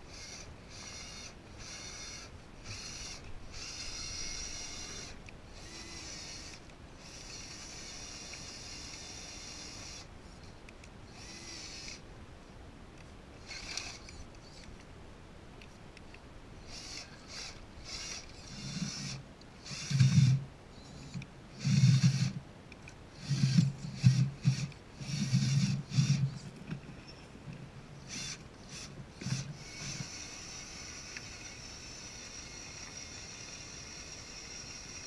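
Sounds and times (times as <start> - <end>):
toy truck motor whirring: 0.0 - 10.4, 11.1 - 12.0, 13.4 - 14.8, 16.6 - 22.4, 23.2 - 27.2, 28.0 - 35.0.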